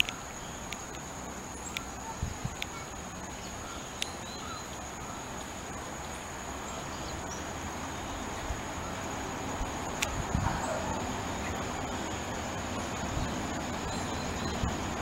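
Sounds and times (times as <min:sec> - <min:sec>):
distant diesel locomotive rumble: 0:00.0 - 0:15.0
high-pitched insect drone: 0:00.0 - 0:15.0.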